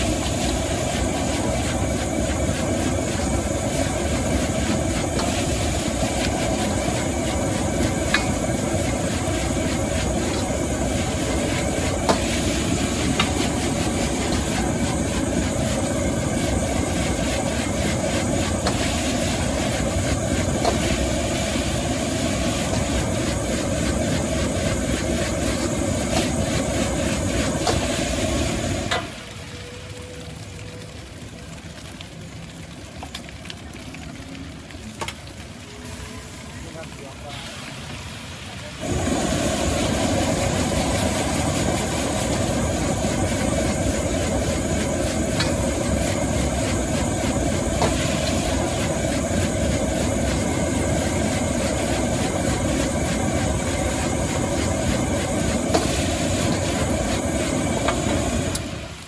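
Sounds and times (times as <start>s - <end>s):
gas burner roaring: 0.0s - 31.6s, 34.5s - 59.0s.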